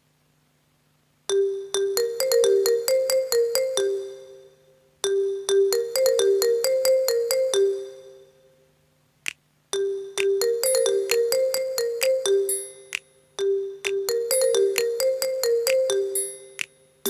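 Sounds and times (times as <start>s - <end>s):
phone ringtone melody: 1.3s - 8.4s, 9.8s - 16.8s.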